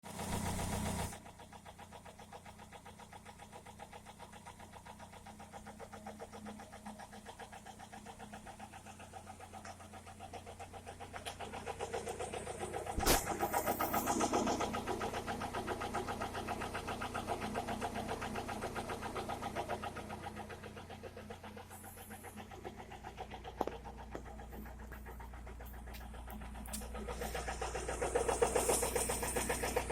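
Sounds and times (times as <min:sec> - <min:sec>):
car engine knocking: 0:00.0 - 0:29.9.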